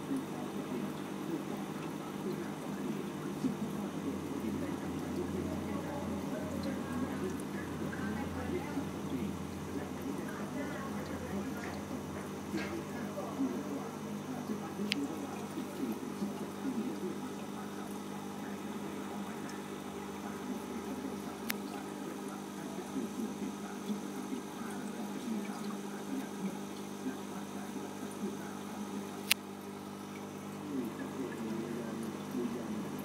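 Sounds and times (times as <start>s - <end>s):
aquarium filter humming: 0.0s - 33.0s
water burbling: 0.0s - 33.0s.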